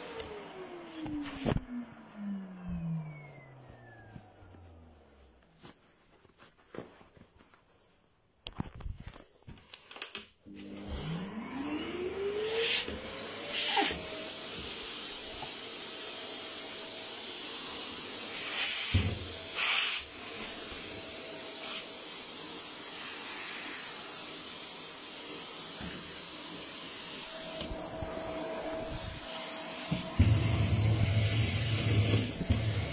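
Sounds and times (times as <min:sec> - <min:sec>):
vacuum cleaner motor whine: 0:00.0 - 0:05.7, 0:09.9 - 0:32.9.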